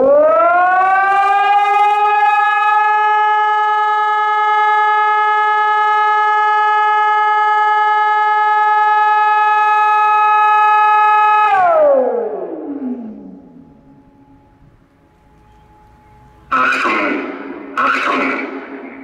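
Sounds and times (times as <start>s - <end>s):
civil defence siren tone: 0.0s - 19.0s.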